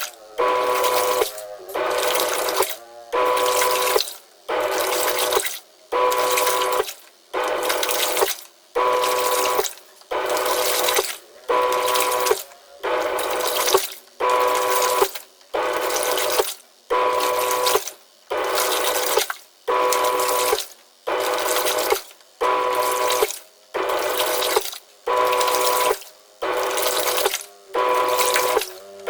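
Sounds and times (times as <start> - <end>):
washing machine churning water: 0.0 - 29.0.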